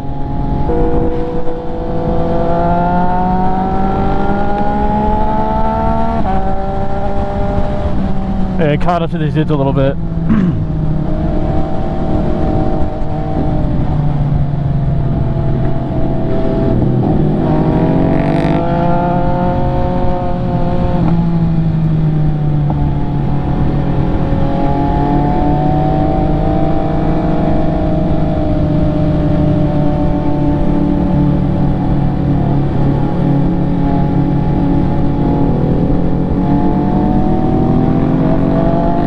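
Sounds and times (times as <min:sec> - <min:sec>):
motorcycle engine accelerating: 0:00.0 - 0:09.0, 0:10.0 - 0:39.0.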